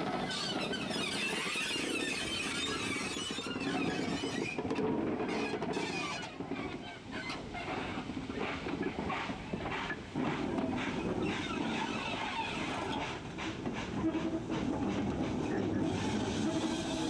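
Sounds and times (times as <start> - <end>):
moving train noise: 0.0 - 17.0
steam locomotive exhaust beats: 0.0 - 17.0.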